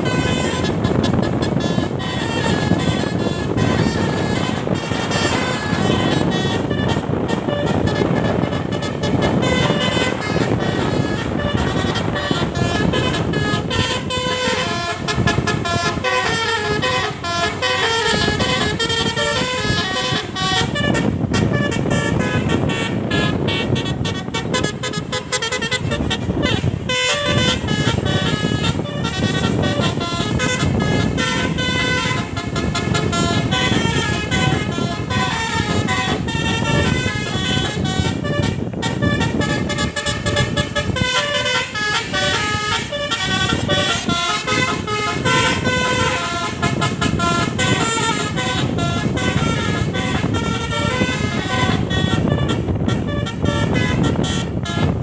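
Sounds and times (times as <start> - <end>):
steady low rumble: 0.0 - 54.6
musical bus air horn: 0.0 - 55.0.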